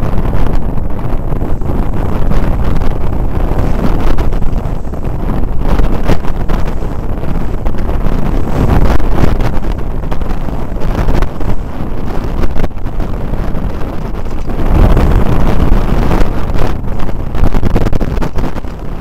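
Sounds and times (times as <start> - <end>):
water rushing along boat hull: 0.0 - 19.0
wind buffeting microphone: 0.0 - 19.0.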